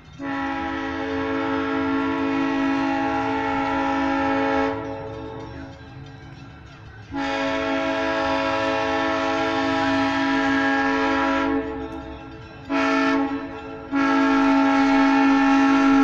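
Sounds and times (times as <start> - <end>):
train air horn chord: 0.2 - 5.5, 7.1 - 11.9, 12.7 - 16.0.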